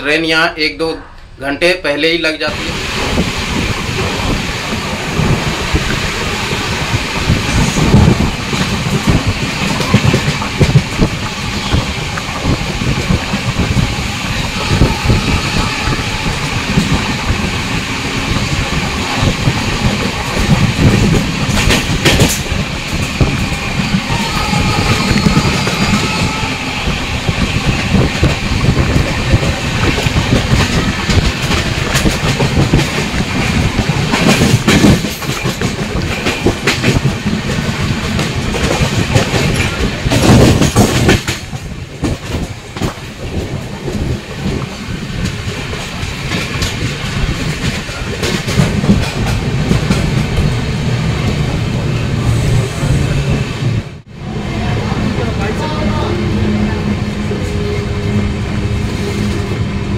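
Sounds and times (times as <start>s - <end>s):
train rumble: 0.0s - 59.9s
train wheels clattering: 3.0s - 53.5s.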